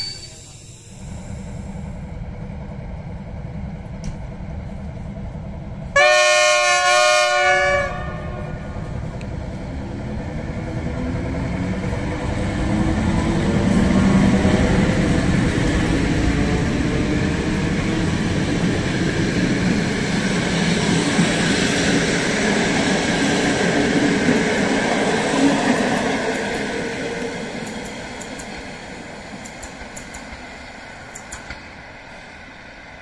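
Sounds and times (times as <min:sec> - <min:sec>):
electric locomotive motors whining: 0:00.0 - 0:33.0
train coaches rolling on rails: 0:00.0 - 0:33.0.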